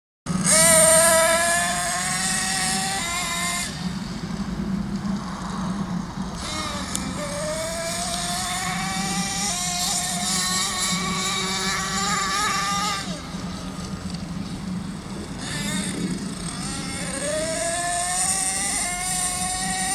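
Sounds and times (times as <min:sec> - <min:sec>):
nitro engine whining at high revs: 0:00.3 - 0:19.9.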